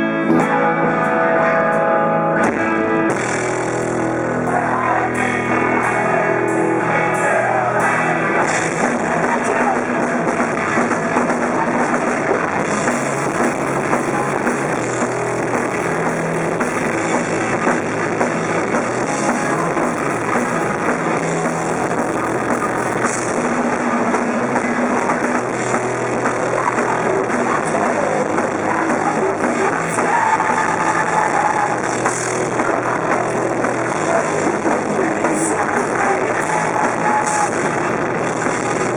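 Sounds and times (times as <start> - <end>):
punk rock band playing live: 0.0 - 38.9.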